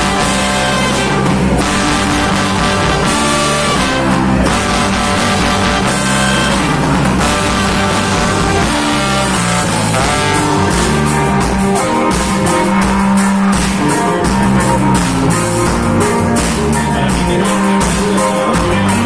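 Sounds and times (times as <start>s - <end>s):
drum kit beat: 0.0s - 19.0s
electric bass: 0.0s - 19.0s
guitar: 0.0s - 19.0s.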